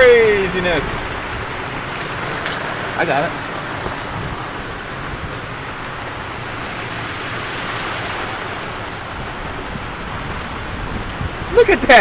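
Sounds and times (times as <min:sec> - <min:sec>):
flowing floodwater: 0:00.0 - 0:12.0
heavy rain downpour: 0:00.0 - 0:12.0.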